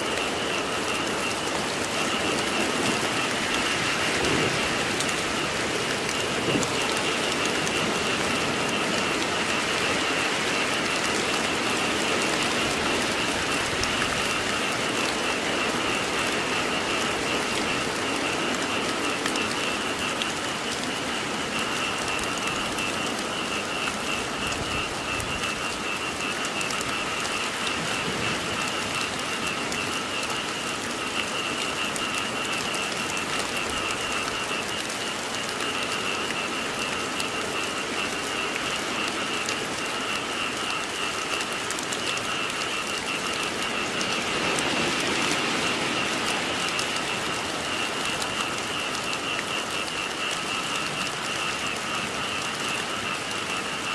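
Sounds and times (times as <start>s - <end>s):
frogs calling in trills: 0.0s - 53.9s
steady rain falling: 0.0s - 53.9s.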